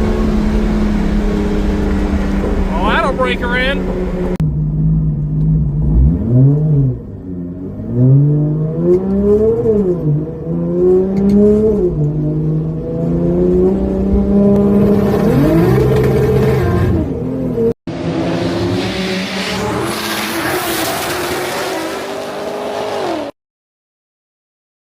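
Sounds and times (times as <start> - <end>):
car engine revving: 0.0 - 23.3.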